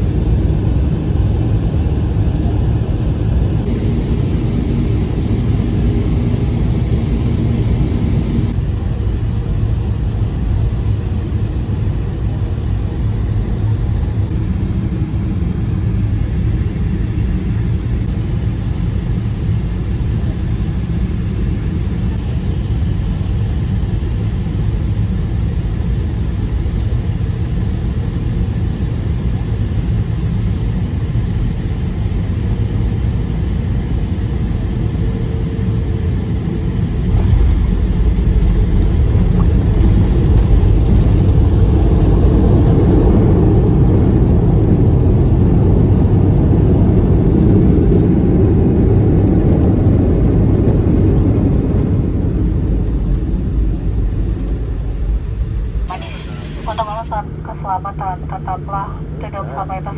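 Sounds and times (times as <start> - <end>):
aircraft cabin rumble: 0.0 - 59.9
plane touching down on runway: 0.0 - 59.9.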